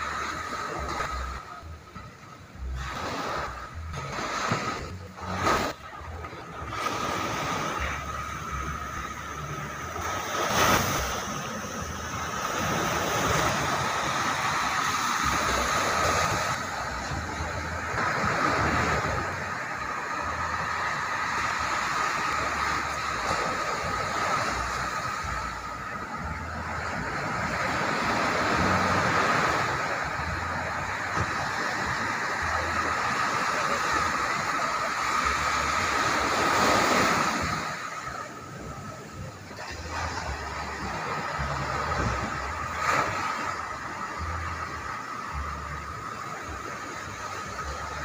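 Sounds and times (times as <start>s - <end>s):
ocean waves breaking on beach: 0.0s - 48.0s
wind rumbling on microphone: 0.0s - 48.0s.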